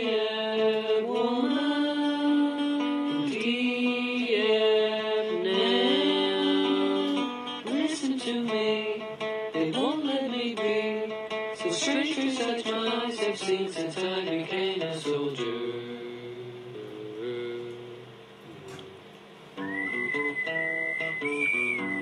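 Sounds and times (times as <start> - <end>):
person singing long notes: 0.0 - 19.0
acoustic guitar: 0.0 - 22.0.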